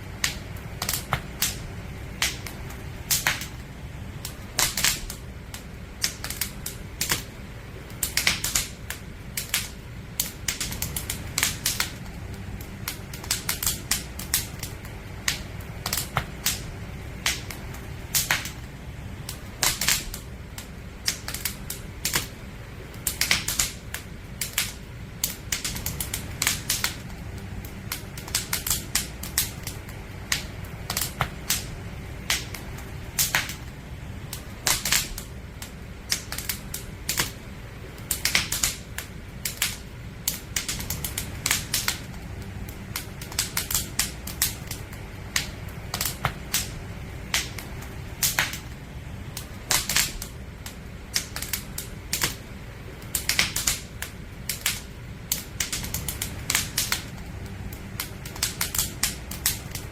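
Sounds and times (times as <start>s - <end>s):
firewood crackling and popping: 0.0s - 59.9s
low rumble of fire: 0.0s - 59.9s.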